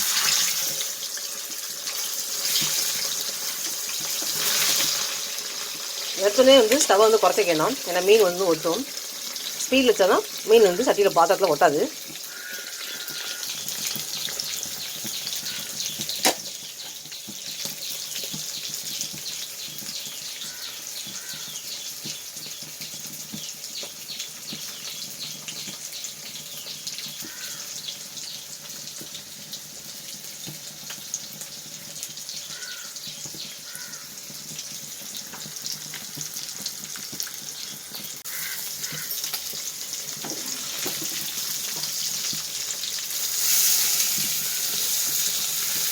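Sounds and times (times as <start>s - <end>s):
fish sizzling in hot oil: 0.0s - 45.9s.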